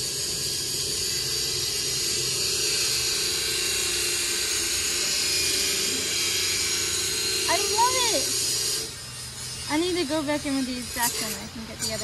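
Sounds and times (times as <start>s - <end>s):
mechanical drone with hiss: 0.0s - 12.0s.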